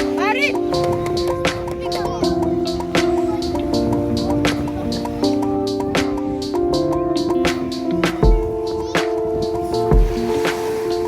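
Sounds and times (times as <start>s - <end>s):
held chords: 0.0s - 11.0s
light regular beat: 0.0s - 11.0s.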